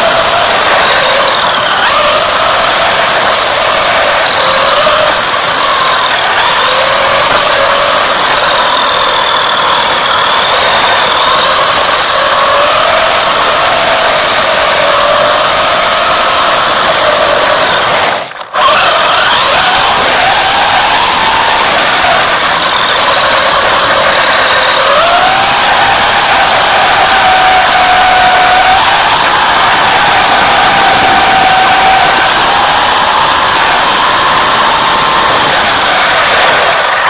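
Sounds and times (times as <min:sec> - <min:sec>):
electric motor whining: 0:00.0 - 0:37.0
tyre and road noise: 0:00.0 - 0:37.0.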